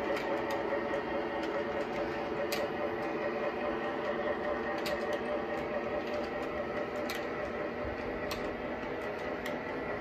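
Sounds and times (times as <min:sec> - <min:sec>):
sharp track clicks: 0:00.0 - 0:10.0
toy train wheels rumbling: 0:00.0 - 0:10.0.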